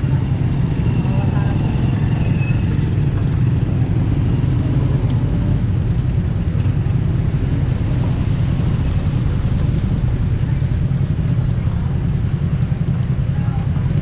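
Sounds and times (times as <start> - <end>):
motor vehicle rumbling: 0.0 - 14.0.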